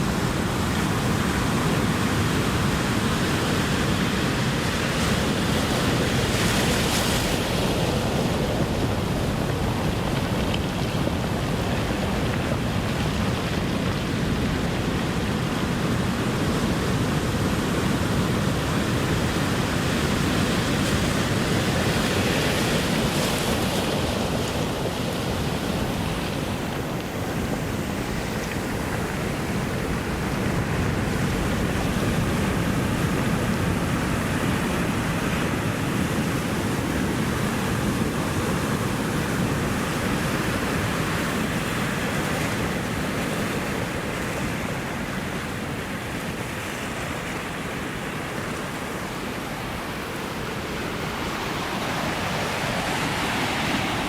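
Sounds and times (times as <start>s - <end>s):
ocean surf washing ashore: 0.0s - 54.0s.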